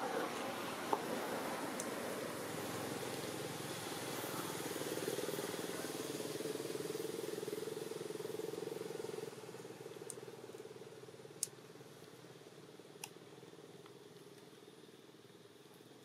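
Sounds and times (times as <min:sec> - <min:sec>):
engine humming with fast pulse: 0:00.0 - 0:16.0.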